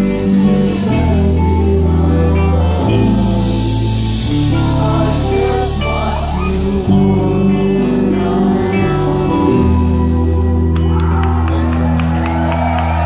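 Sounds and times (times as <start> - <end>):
live band music with bowed strings: 0.0 - 13.0
low bass notes: 0.0 - 13.0.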